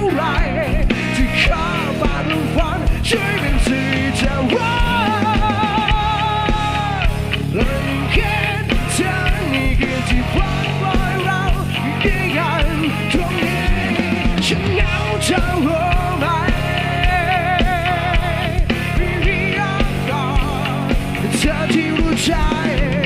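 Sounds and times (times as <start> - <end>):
rock music with singing: 0.0 - 23.0.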